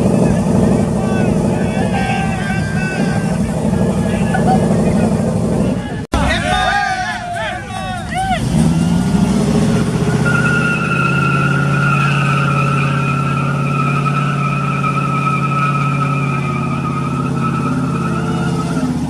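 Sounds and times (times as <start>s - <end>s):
truck engine at high revs: 0.0s - 6.5s, 7.4s - 19.0s
tires squealing: 0.0s - 19.0s.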